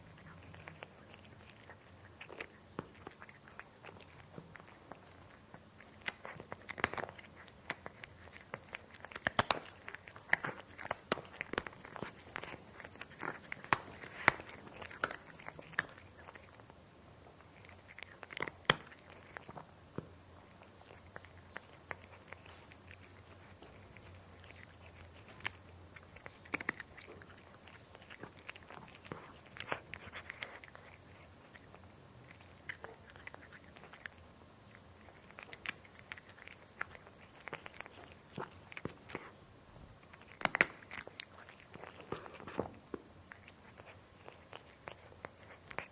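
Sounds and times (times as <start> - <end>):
cat chewing dry food: 0.0 - 45.9.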